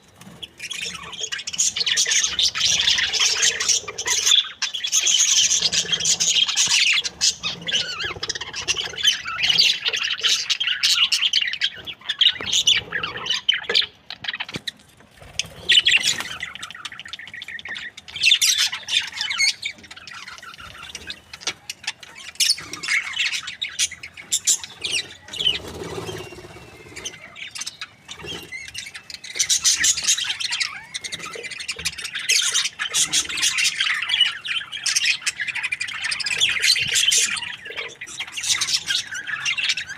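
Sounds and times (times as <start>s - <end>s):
budgerigars chattering and chirping: 0.1s - 39.9s.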